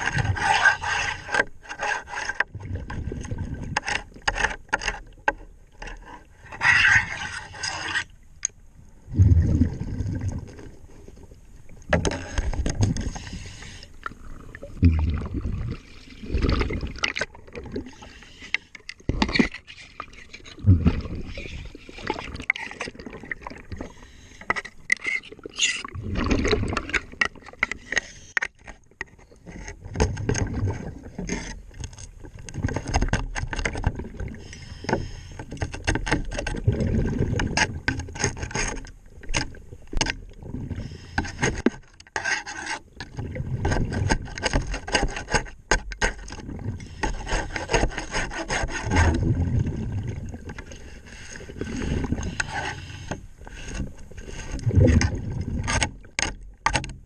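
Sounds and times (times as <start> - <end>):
underwater scraping of boat hull: 0.0 - 8.2, 9.1 - 57.0.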